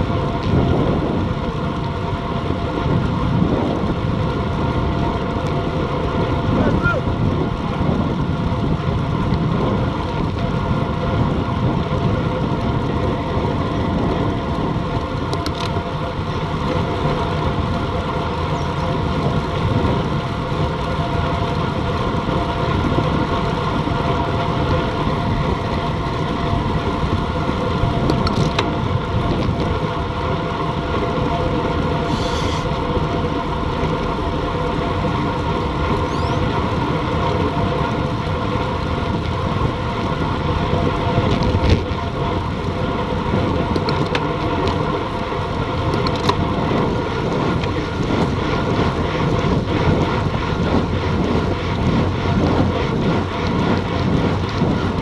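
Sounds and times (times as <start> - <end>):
bicycle tyre noise on asphalt: 0.0 - 55.0
wind rushing on microphone: 0.0 - 55.0.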